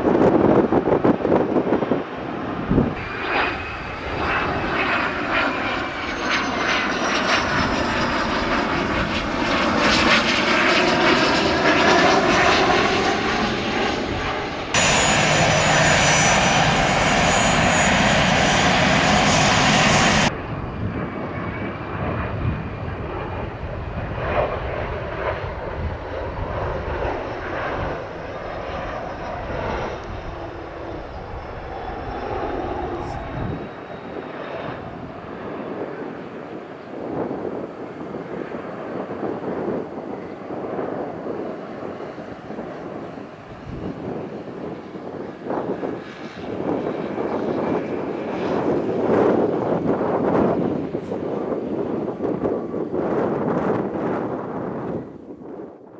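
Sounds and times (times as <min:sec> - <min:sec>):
jet engine rush: 0:00.0 - 0:55.9
jet engine whine: 0:00.0 - 0:55.9.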